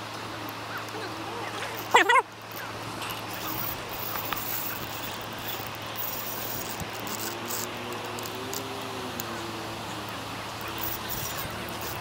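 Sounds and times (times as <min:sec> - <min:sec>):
faint engine drone: 0:00.0 - 0:12.0
river water rushing: 0:00.0 - 0:12.0.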